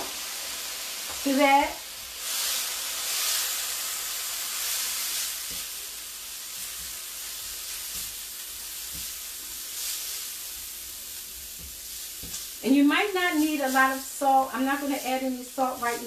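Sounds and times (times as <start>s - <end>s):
food sizzling in a skillet: 0.0s - 16.0s
spatula stirring in a pan: 0.0s - 16.0s.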